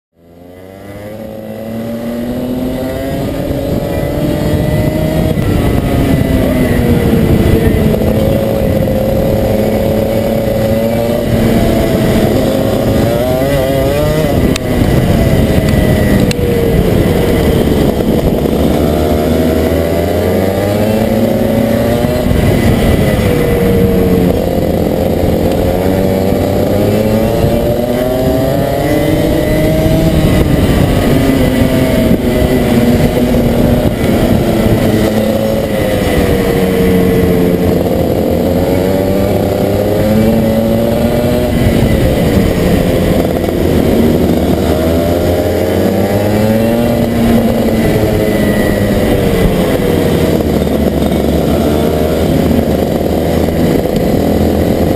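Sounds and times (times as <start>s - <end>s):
kart engine revving: 0.2s - 54.9s.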